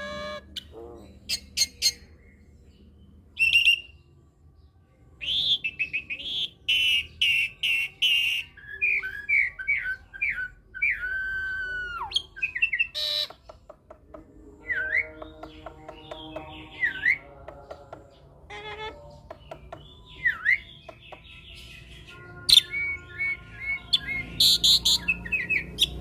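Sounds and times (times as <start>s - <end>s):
starling singing: 0.0s - 26.0s.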